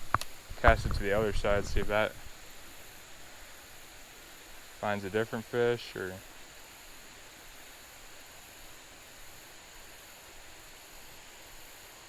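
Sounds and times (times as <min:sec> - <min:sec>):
even hiss: 0:00.0 - 0:12.0
high-pitched insect drone: 0:00.0 - 0:12.0.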